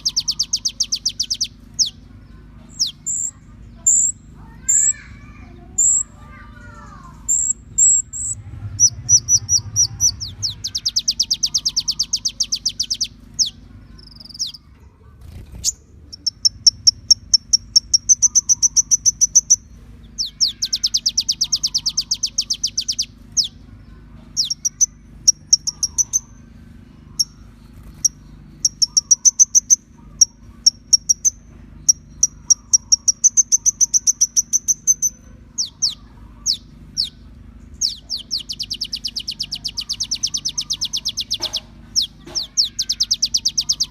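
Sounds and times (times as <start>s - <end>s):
bird singing high trills: 0.0s - 14.7s, 15.4s - 43.9s
faint low hum: 0.0s - 43.9s.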